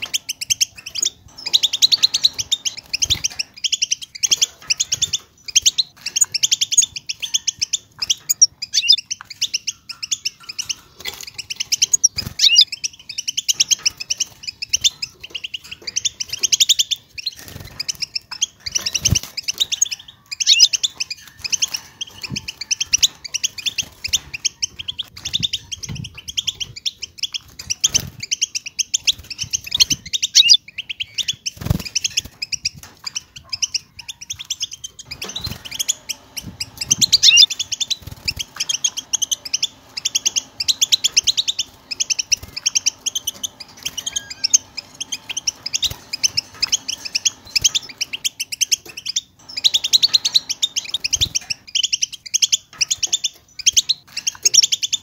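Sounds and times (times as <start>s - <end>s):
finch singing: 0.0s - 55.0s.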